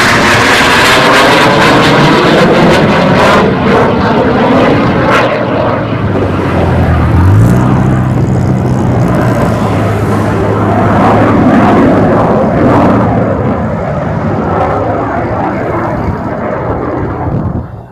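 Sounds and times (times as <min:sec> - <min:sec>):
fighter jet passing: 0:00.0 - 0:17.9.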